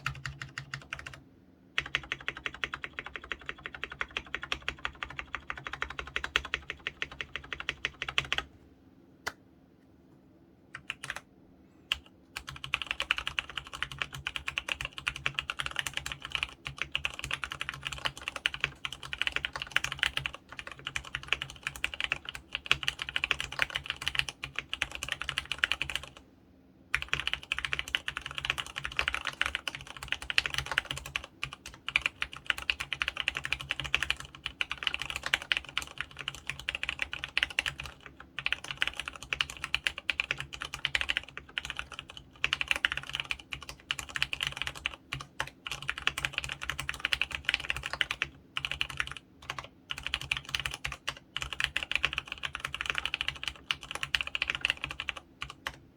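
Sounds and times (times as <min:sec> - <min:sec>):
fast typing on mechanical keyboard: 0:00.0 - 0:01.2, 0:01.8 - 0:08.5, 0:10.8 - 0:11.2, 0:11.9 - 0:26.2, 0:26.9 - 0:55.8.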